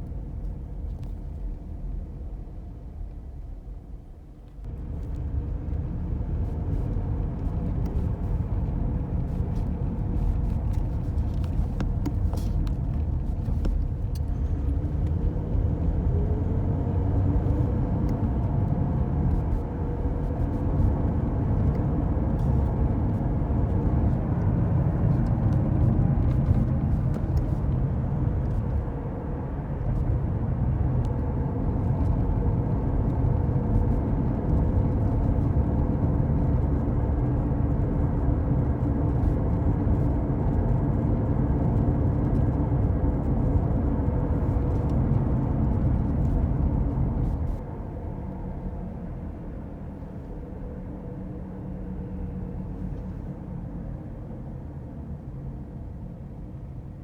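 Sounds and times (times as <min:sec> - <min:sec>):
low rumbling wheel drone: 0:00.0 - 0:57.0.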